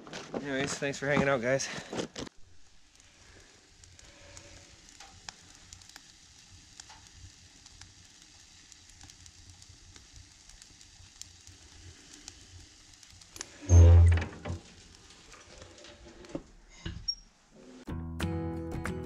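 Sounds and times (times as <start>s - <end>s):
wood fire crackling and hissing: 0.0s - 17.9s
small pops of fire: 0.1s - 13.8s, 14.4s - 16.6s.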